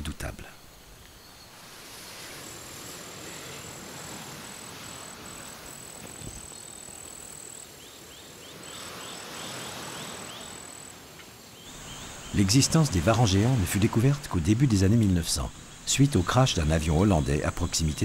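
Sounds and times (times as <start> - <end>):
faint hiss: 0.0 - 18.0
insects buzzing trill: 0.0 - 18.0.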